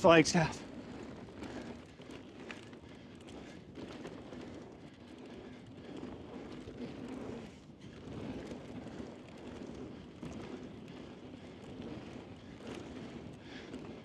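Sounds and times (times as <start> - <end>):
bike clicks and rattles: 0.0 - 14.0
bike tyres on loose dirt: 0.0 - 14.0.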